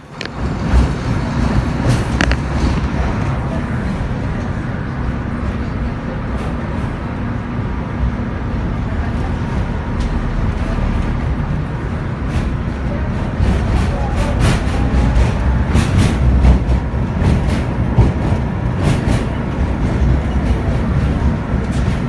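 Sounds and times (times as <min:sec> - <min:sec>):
tram rumbling along track: 0:00.0 - 0:22.0.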